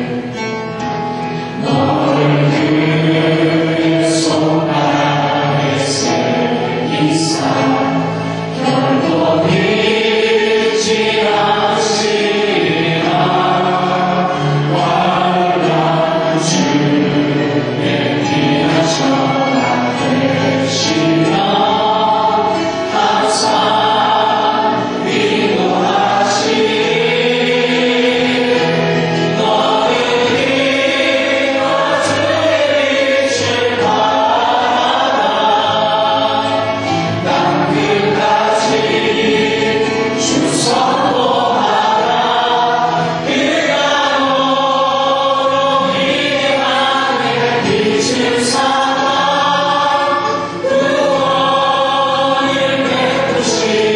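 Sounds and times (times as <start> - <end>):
choir singing gospel song: 0.0 - 53.9.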